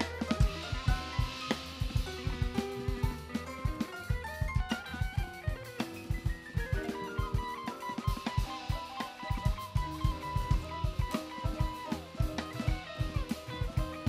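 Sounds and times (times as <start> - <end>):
drum kit playing: 0.0 - 14.0
electric guitar lines: 0.0 - 14.0.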